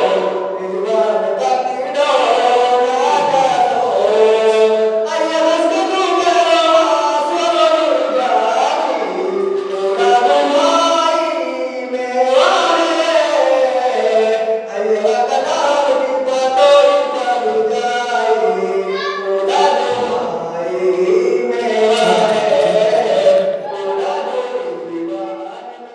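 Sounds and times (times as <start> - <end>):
man singing into microphone: 0.0 - 25.9.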